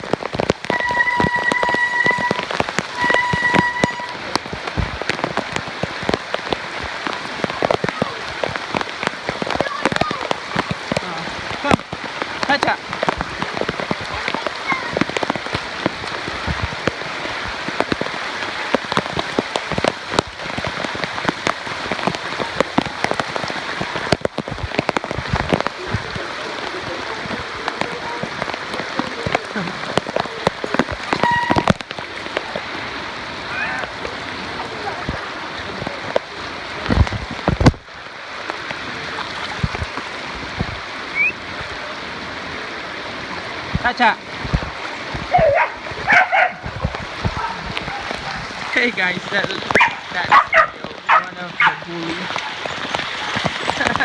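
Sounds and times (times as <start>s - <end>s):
raindrop ticks: 0.0s - 42.3s, 43.2s - 54.0s
rain falling: 0.0s - 54.0s.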